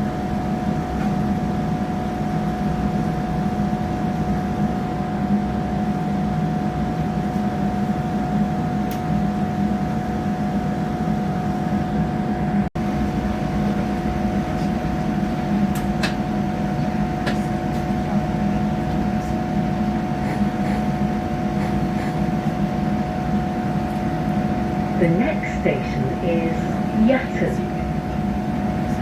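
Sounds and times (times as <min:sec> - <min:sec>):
train running noise inside carriage: 0:00.0 - 0:29.0.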